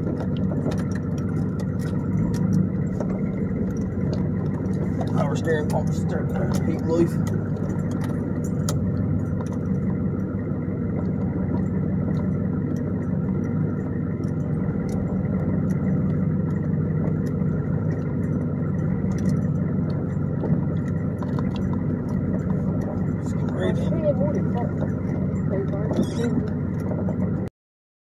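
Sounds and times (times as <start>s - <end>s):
pickup engine low drone: 0.0s - 27.5s.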